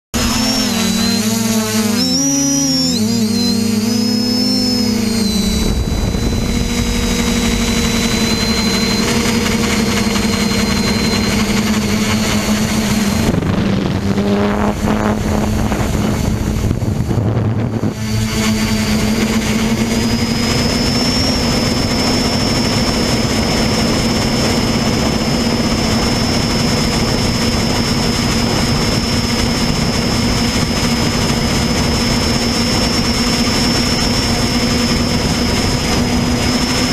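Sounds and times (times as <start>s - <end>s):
drone motors buzzing: 0.2s - 36.9s
wind rush: 3.8s - 36.9s.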